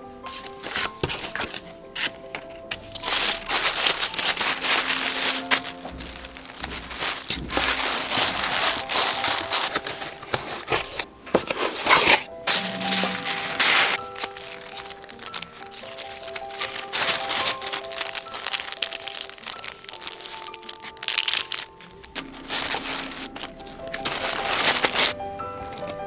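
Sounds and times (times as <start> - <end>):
tissue paper rustling: 0.0 - 26.0.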